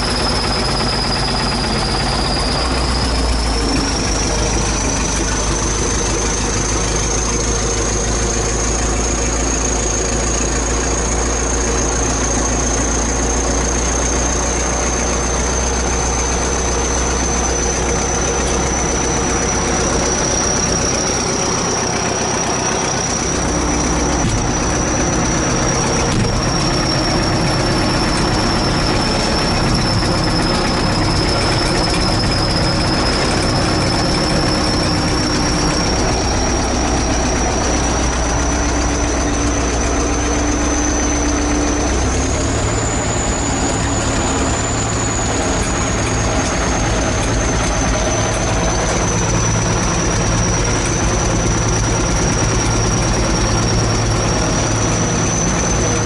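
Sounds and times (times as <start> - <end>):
bulldozer diesel engine running: 0.0 - 56.0
thin high whine: 0.0 - 56.0.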